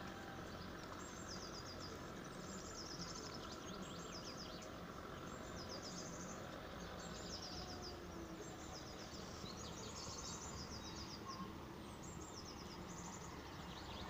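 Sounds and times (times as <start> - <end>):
faint background noise: 0.0 - 14.0
songbirds singing: 0.0 - 14.0.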